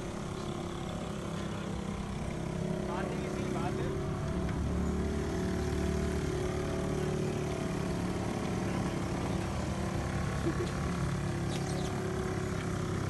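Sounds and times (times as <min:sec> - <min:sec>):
small boat motor running: 0:00.0 - 0:13.0.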